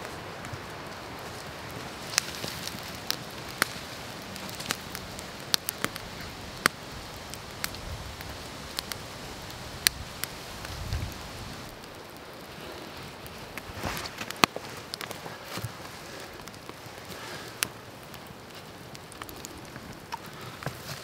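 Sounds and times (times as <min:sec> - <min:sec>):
burning wood popping: 0:00.0 - 0:21.0
campfire hiss: 0:00.0 - 0:21.0.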